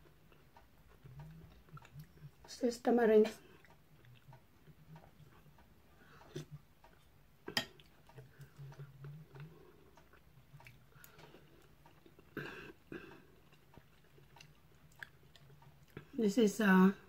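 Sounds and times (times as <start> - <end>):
person chewing: 0.0 - 2.5, 3.4 - 16.2.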